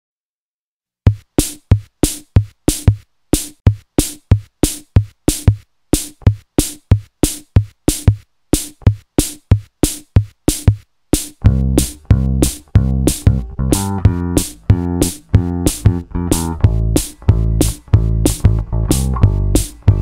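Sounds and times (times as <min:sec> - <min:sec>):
percussive beat music: 0:01.1 - 0:20.0.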